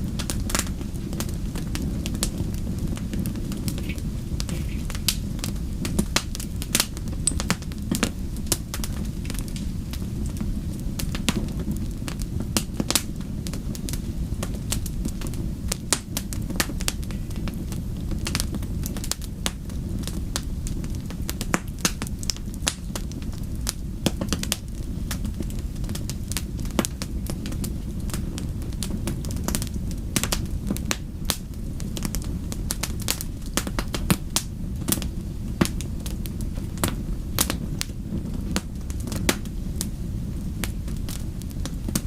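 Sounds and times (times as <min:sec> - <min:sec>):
fireplace fire crackling: 0:00.0 - 0:42.0.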